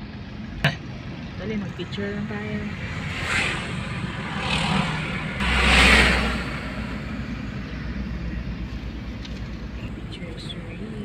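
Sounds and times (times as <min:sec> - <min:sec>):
car road and engine noise: 0:00.0 - 0:11.0
low engine drone: 0:00.0 - 0:11.0
passing traffic rushes: 0:00.0 - 0:11.0.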